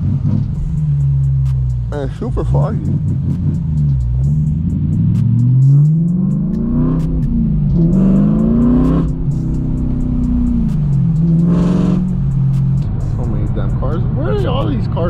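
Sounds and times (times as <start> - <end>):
car exhaust revving: 0.0 - 15.0.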